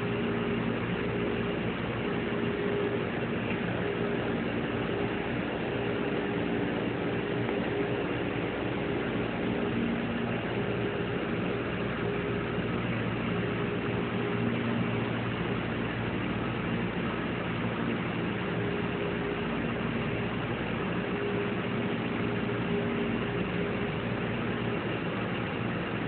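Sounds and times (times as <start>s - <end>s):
faint steady tones: 0.0s - 26.0s
mechanical hum: 0.0s - 26.0s.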